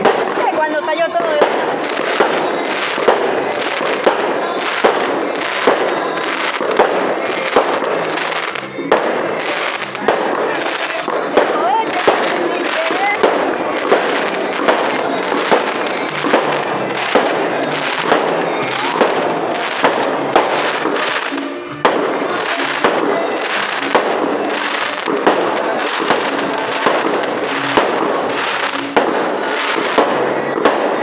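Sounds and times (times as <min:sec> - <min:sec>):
fireworks crackling and popping: 0:00.0 - 0:31.0
music playing: 0:00.0 - 0:31.0.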